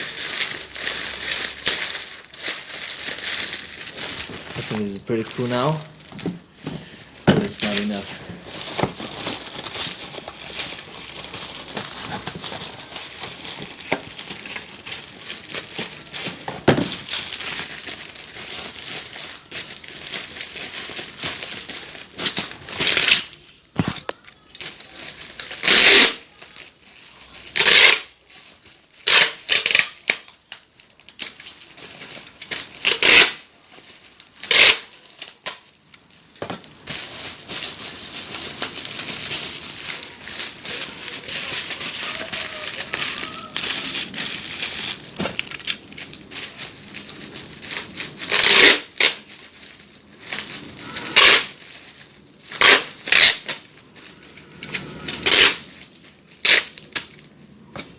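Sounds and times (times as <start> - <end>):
plastic tearing: 0.0 - 57.9
plastic wrapping crinkling: 0.0 - 57.9.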